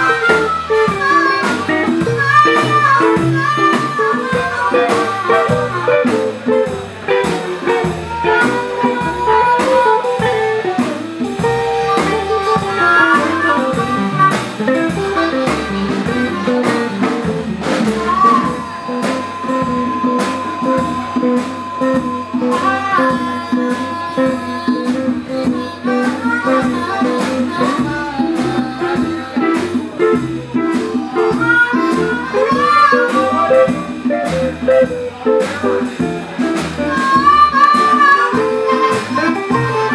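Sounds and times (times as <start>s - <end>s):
amplified harmonica: 0.0s - 39.9s
drum kit: 0.0s - 39.9s
upright bass: 0.0s - 39.9s.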